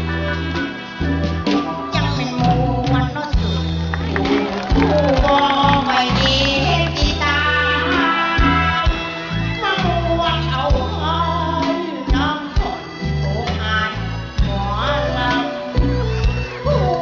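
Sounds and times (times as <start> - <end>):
bass line: 0.0 - 17.0
person singing into a microphone: 0.0 - 17.0.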